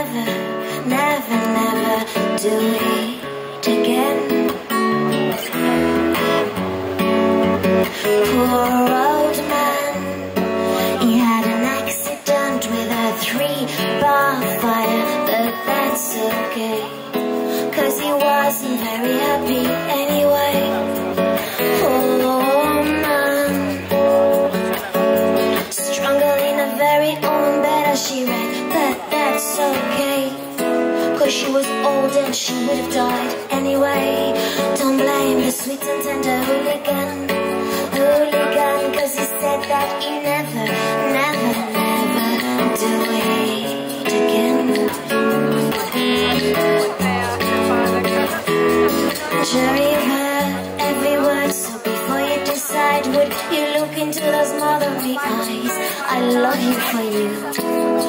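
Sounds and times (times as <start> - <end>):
strummed acoustic guitar: 0.0 - 58.0
woman singing into microphone: 0.0 - 58.0.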